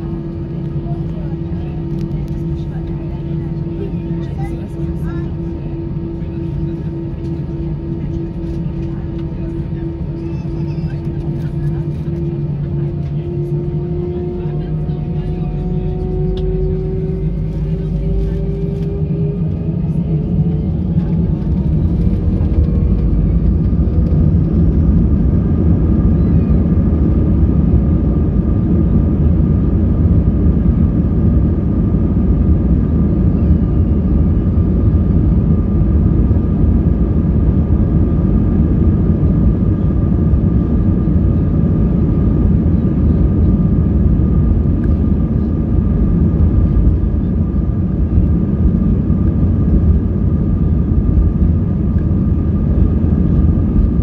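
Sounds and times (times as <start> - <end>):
jet engines roaring and whining: 0.0 - 54.0.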